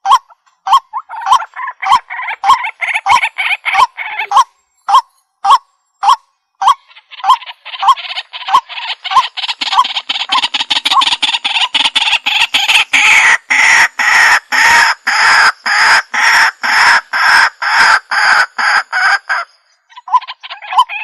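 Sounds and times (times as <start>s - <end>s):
waterhen harsh calls: 0.0s - 21.0s.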